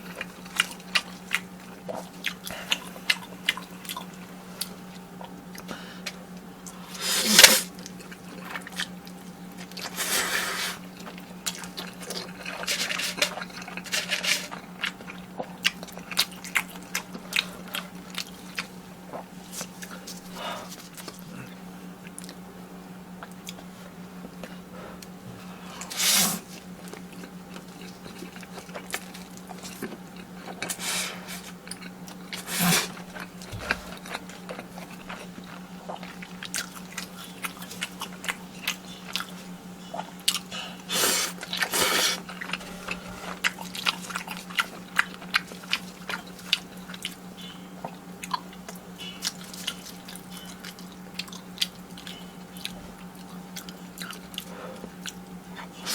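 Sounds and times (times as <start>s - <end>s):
wet chewing: 0.0s - 22.4s, 25.8s - 55.9s.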